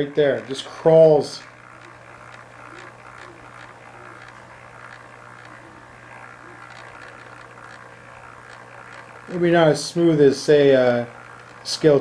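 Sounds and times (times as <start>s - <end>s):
light wheel ticks: 0.0s - 12.0s
low hum: 0.0s - 12.0s
model train motor whirring: 0.0s - 12.0s.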